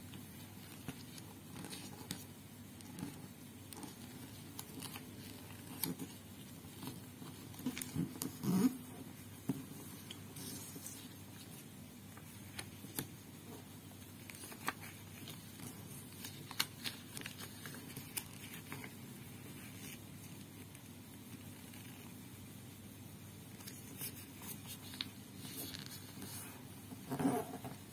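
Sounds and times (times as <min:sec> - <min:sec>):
paper being folded and creased: 0:00.4 - 0:08.9, 0:09.6 - 0:22.2, 0:23.5 - 0:26.5.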